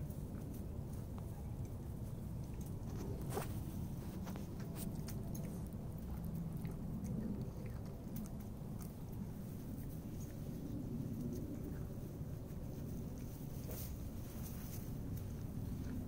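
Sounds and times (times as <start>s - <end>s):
cat chewing food: 0.0s - 16.0s.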